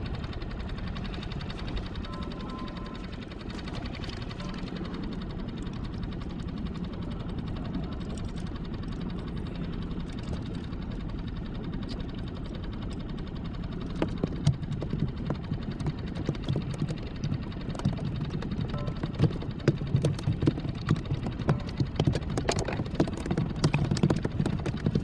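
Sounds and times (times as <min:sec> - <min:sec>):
outboard motor idling: 0:00.0 - 0:25.0.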